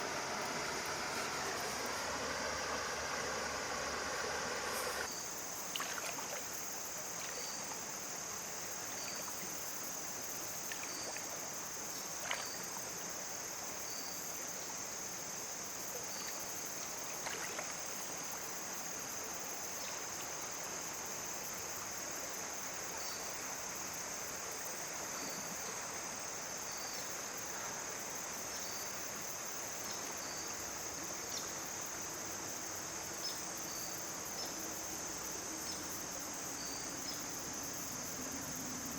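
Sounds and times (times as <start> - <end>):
insects trilling: 0.0 - 38.9
stream running: 0.0 - 38.9.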